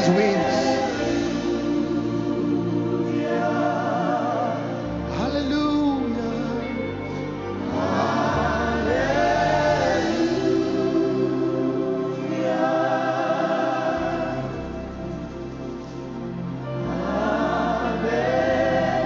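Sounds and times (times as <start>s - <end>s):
choir singing held notes: 0.0s - 5.2s, 6.7s - 19.0s
keyboard and bass accompaniment: 0.0s - 19.0s.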